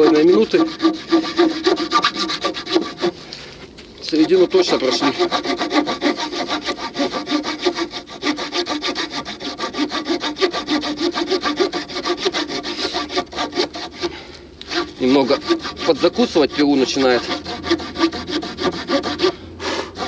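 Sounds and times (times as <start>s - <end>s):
saw blade cutting wood: 0.0s - 3.3s, 4.0s - 20.0s.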